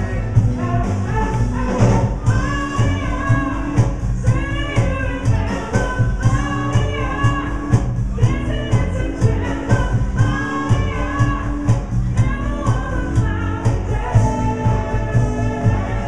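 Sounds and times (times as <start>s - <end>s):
bass and guitar: 0.0s - 16.0s
drum beat: 0.0s - 16.0s
person singing: 0.0s - 16.0s.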